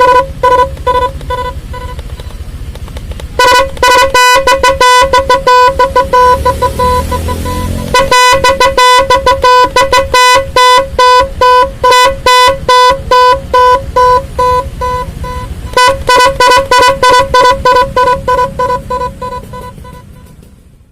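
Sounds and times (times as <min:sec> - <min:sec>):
electronic horn short beeps: 0:00.0 - 0:02.4, 0:03.4 - 0:20.5.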